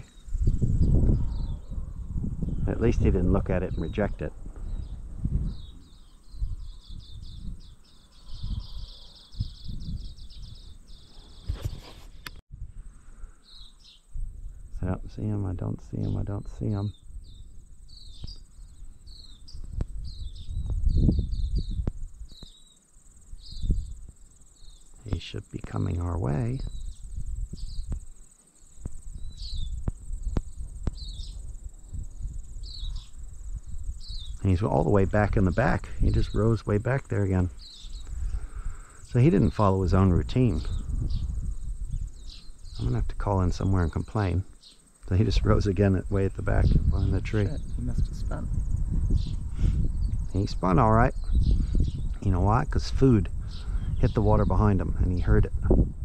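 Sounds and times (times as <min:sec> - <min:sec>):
wind rumble on microphone: 0:00.0 - 0:28.2, 0:28.8 - 0:44.5, 0:45.1 - 0:56.0
insect chirping: 0:00.0 - 0:56.0.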